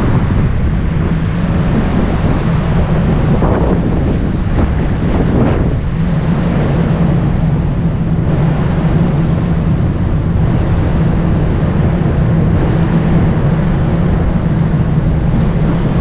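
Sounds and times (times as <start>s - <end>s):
ship engines droning: 0.0s - 16.0s
wind buffeting microphone: 0.0s - 16.0s.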